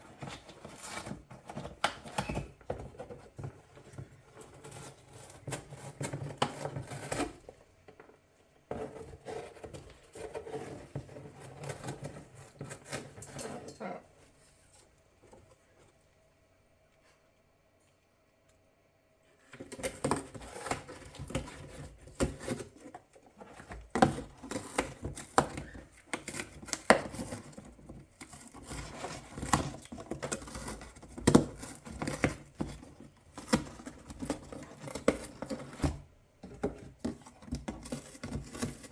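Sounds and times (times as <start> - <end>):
parrot tearing cardboard: 0.1 - 7.6, 8.7 - 13.9, 19.4 - 38.9.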